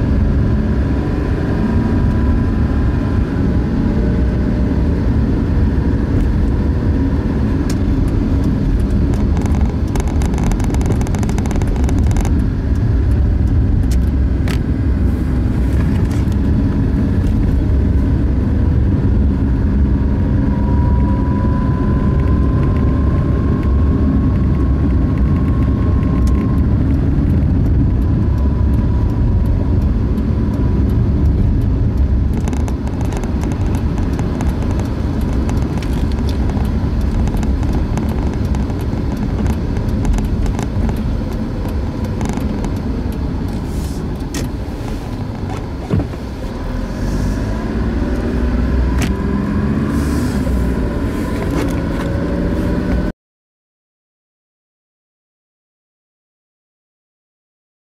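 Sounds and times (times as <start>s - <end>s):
car engine inside cabin: 0.0s - 53.1s
road rumble: 0.0s - 53.1s.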